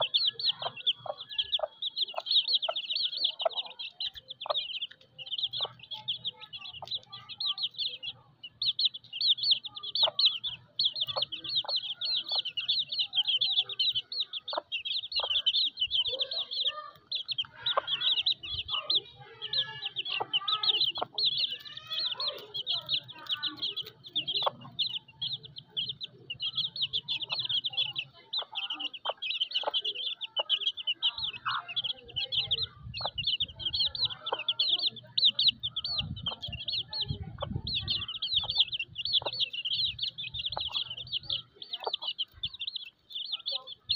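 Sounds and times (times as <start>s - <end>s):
chicks peeping: 0.0s - 43.9s
hen clucking: 0.0s - 43.9s.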